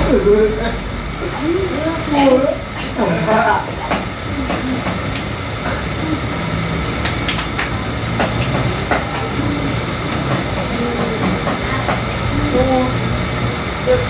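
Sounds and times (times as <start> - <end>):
rumbling room noise: 0.0 - 14.0.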